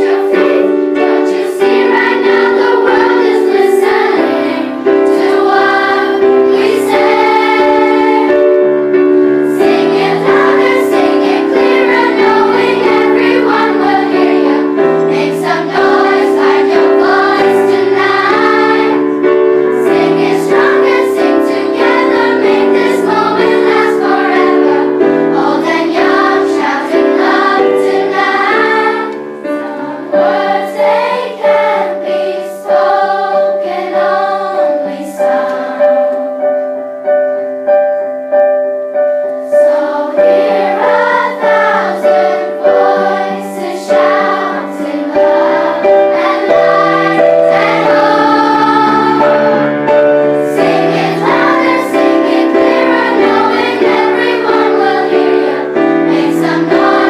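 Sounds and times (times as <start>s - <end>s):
children's choir singing: 0.0s - 57.0s
piano accompaniment: 0.0s - 57.0s.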